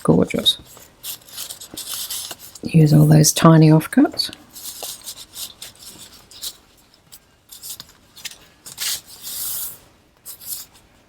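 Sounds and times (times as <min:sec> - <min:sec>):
paper pages rustling: 0:00.3 - 0:03.3, 0:04.4 - 0:10.8.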